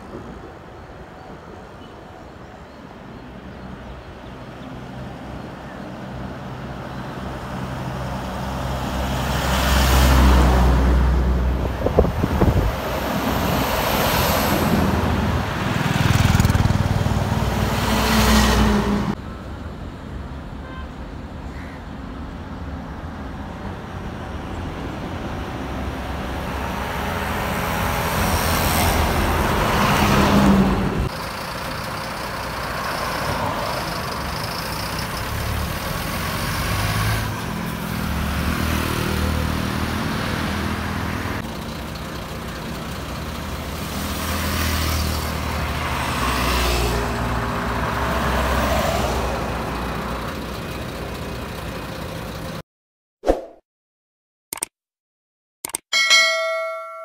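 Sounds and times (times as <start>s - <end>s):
diesel lorries passing: 3.2s - 20.5s, 21.9s - 52.6s.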